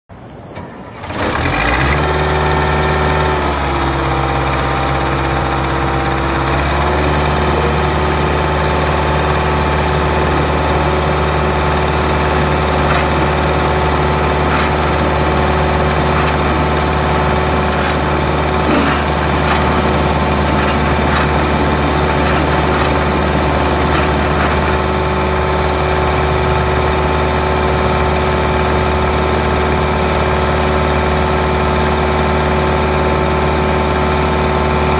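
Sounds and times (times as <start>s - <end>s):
paver engine starting and idling: 0.2s - 34.9s.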